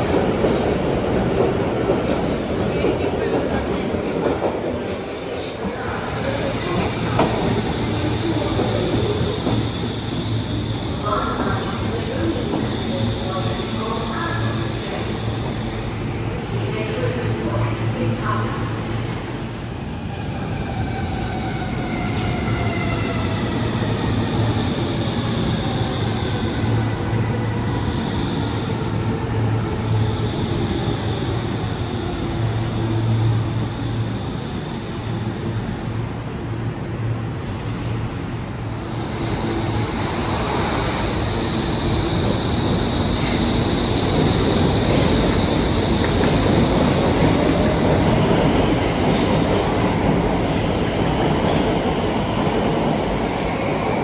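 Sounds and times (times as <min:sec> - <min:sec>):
metro train whine: 0:00.0 - 0:54.0.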